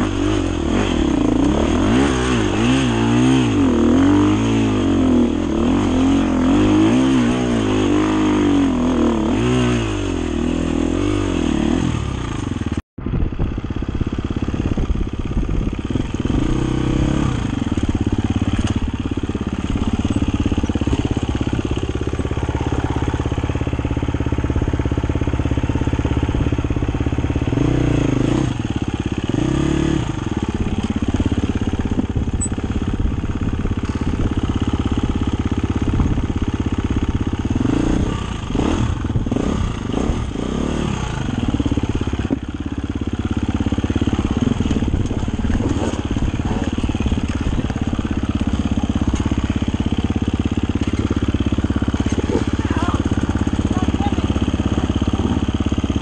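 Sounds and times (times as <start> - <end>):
dirt bike engine revving: 0.0 - 12.8, 13.8 - 56.0.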